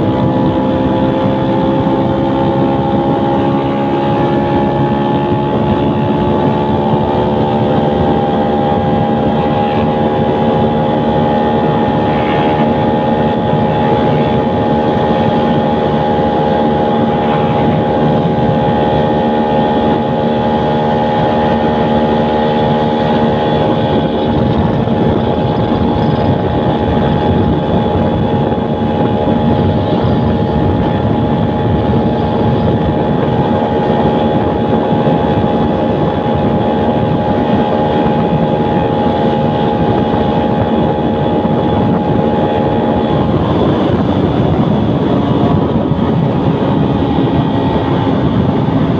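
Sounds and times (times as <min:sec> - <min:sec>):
motorcycle engine at high revs: 0:00.0 - 0:48.9.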